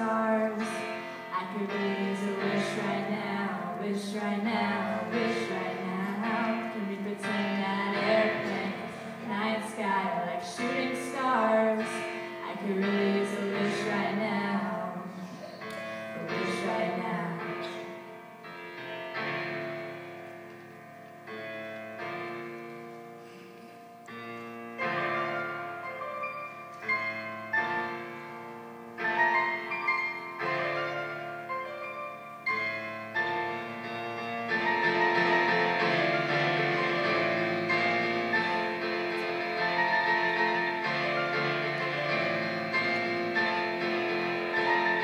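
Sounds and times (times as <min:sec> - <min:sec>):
piano chords: 0:00.0 - 0:45.0.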